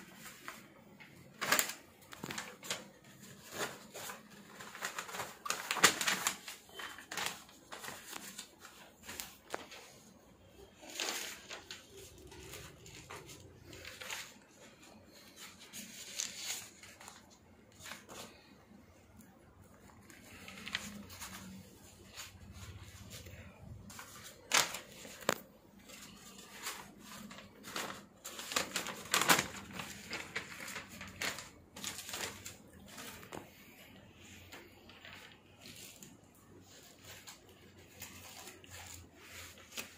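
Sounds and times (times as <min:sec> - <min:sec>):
paper banknotes rustling: 0:00.0 - 0:18.7, 0:19.3 - 0:39.9.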